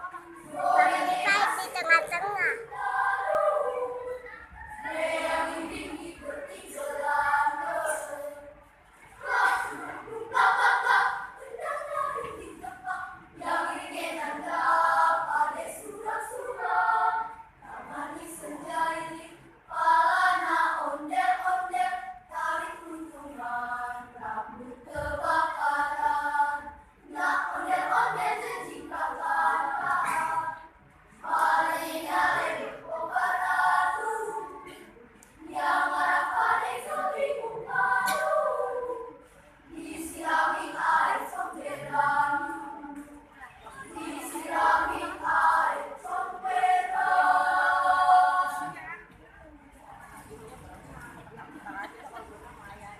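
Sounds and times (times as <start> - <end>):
choir singing: 0.0 - 1.8, 2.5 - 48.8.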